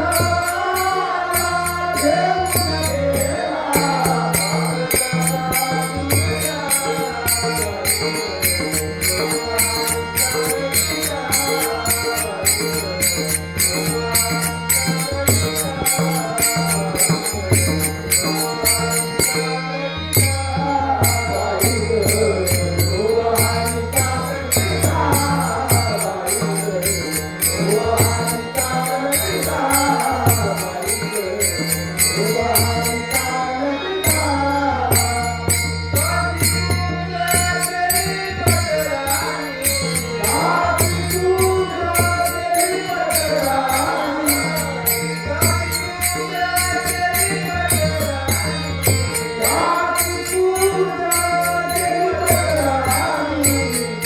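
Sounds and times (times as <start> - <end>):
man singing devotional song: 0.0 - 54.0.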